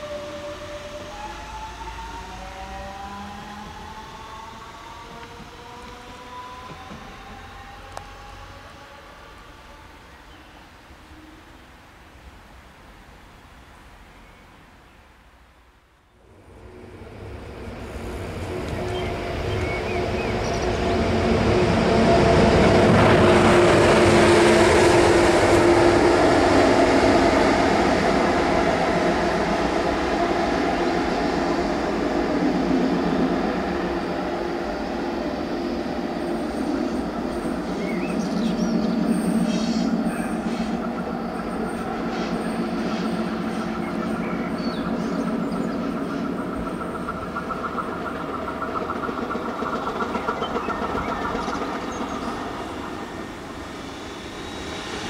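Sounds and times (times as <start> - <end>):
electric locomotive approaching: 0.0 - 12.5, 16.1 - 55.0
electric train passing: 0.0 - 12.7, 16.2 - 55.0.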